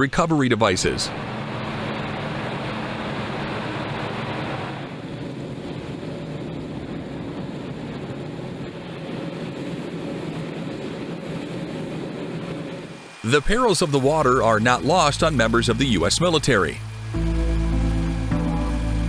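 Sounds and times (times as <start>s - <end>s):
engine drone: 0.4s - 19.0s.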